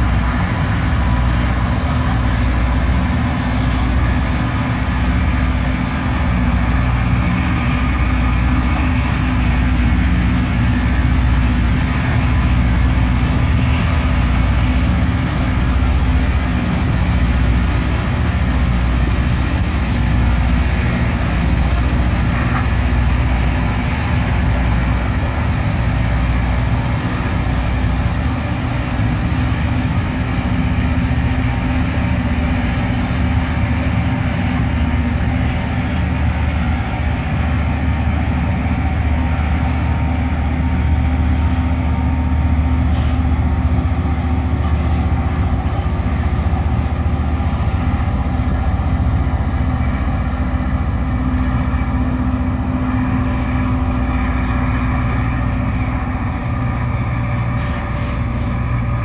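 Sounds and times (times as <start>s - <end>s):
rail grinding train drone: 0.0s - 59.0s.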